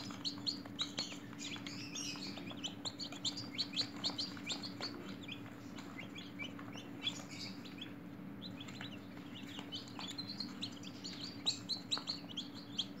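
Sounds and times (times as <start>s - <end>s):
chicks peeping: 0.0s - 13.0s
faint low hum: 0.0s - 13.0s.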